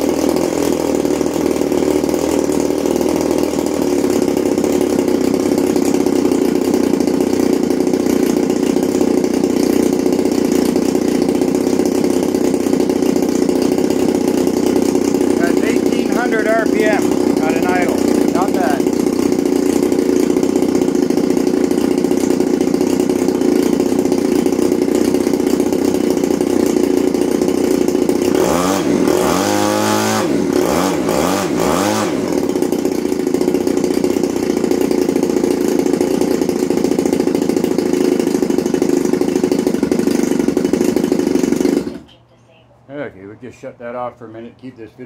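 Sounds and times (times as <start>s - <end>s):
model engine revving: 0.0s - 42.1s.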